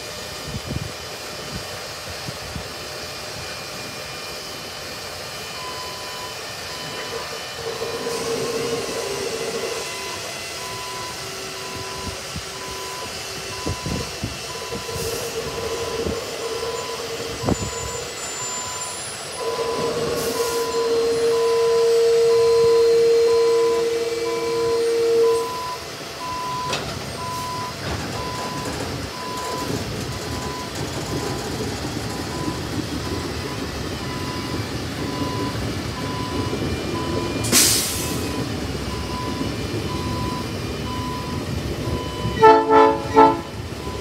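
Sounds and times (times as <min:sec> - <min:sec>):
truck engine drone: 0:00.0 - 0:44.0
reversing alarm beeps: 0:05.5 - 0:31.6, 0:32.2 - 0:44.0.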